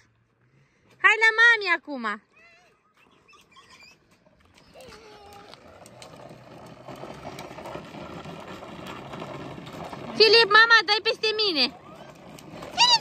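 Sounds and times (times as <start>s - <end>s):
tricycle wheels rattling on asphalt: 2.2s - 13.0s.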